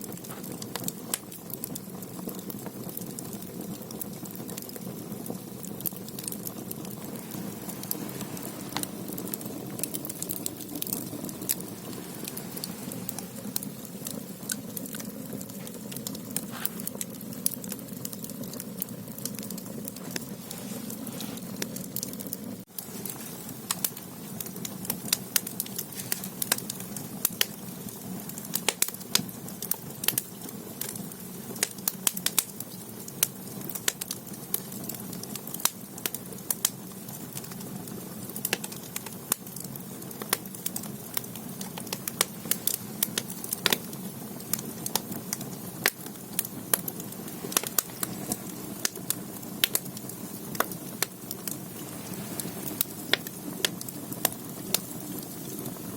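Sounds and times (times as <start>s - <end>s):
low rush of fire: 0.0s - 30.2s, 40.5s - 55.9s
logs crackling and popping: 0.0s - 55.9s.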